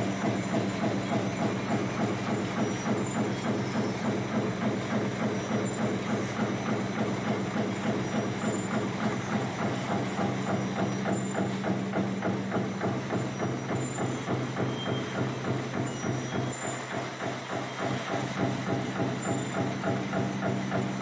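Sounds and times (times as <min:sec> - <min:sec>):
machine clatter: 0:00.0 - 0:21.0.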